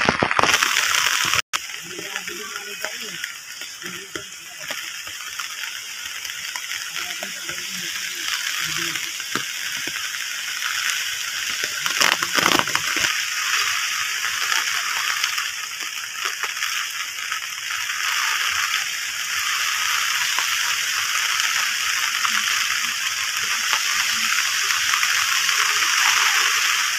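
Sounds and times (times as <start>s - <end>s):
heavy water drips: 0.0s - 26.9s
steady rain falling: 0.0s - 26.9s.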